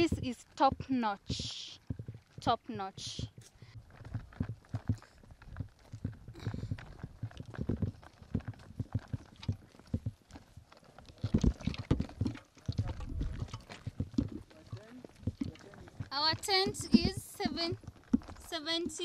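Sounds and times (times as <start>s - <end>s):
footsteps walking: 0.0s - 19.0s.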